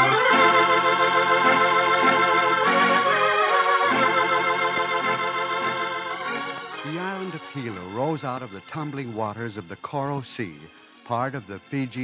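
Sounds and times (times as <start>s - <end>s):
organ playing sustained chords: 0.0s - 12.0s.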